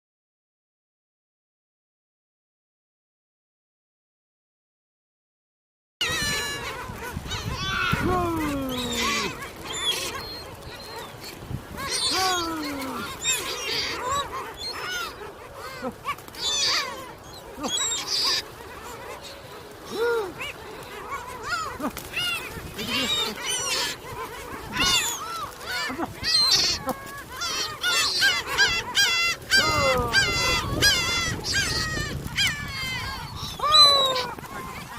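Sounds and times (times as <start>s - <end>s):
gulls calling: 6.0s - 34.9s
seagulls squawking: 6.0s - 34.9s.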